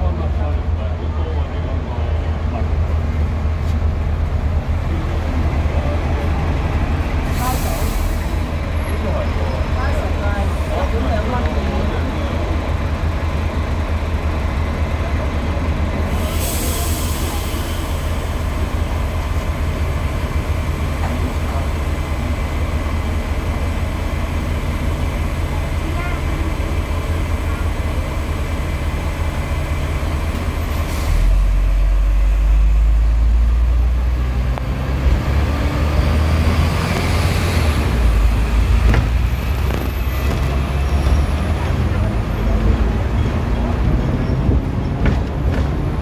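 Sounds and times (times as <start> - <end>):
street traffic: 0.0 - 46.0
tram rumbling: 0.0 - 46.0.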